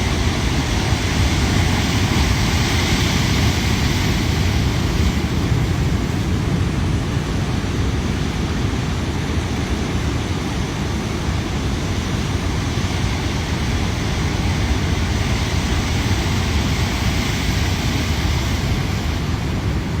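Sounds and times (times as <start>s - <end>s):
heavy surf rushing: 0.0s - 20.0s.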